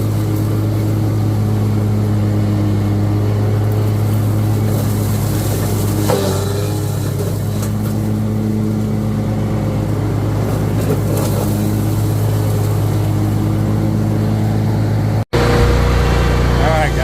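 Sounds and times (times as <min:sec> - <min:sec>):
lawn mower engine humming: 0:00.0 - 0:17.0.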